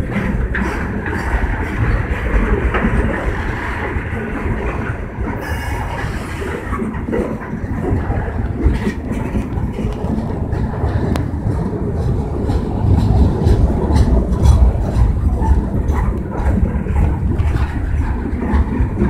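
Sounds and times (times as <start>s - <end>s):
freight train rumbling: 0.0s - 19.0s
wheels clattering over rail joints: 0.0s - 19.0s.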